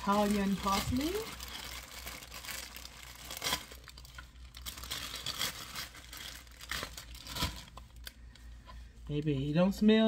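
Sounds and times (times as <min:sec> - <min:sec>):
herbs crinkling and rustling: 0:00.0 - 0:08.2.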